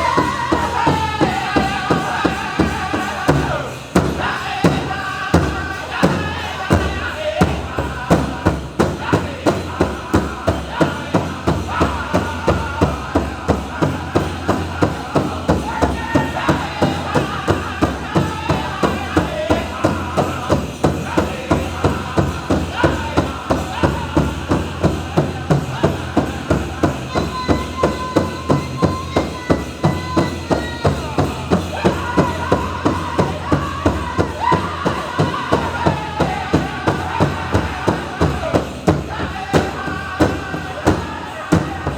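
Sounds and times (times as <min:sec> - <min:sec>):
big drum beating: 0:00.0 - 0:41.9
men singing in chorus: 0:00.0 - 0:41.9.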